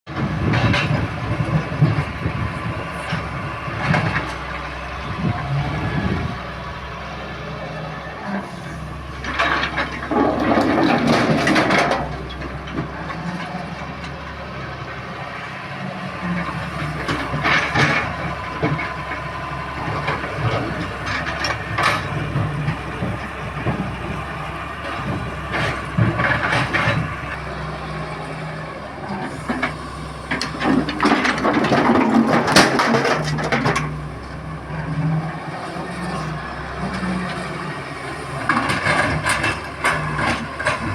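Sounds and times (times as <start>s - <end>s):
excavator diesel engine: 0.1s - 40.9s
excavator scraping and rattling: 0.1s - 40.9s.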